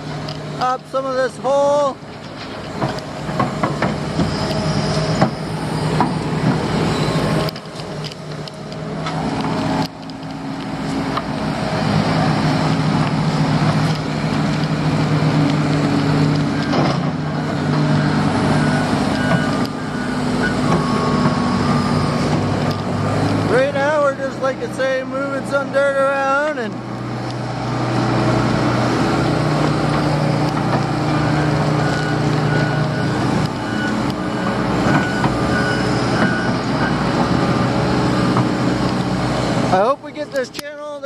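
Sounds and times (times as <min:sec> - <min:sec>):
diesel engine under load: 0:00.0 - 0:41.0.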